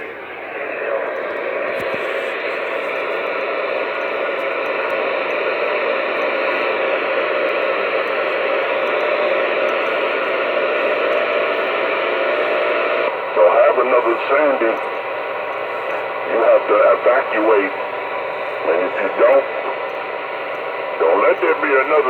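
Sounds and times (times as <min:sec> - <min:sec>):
faint steady tones: 0:00.0 - 0:22.0
radio static hiss: 0:00.0 - 0:22.0.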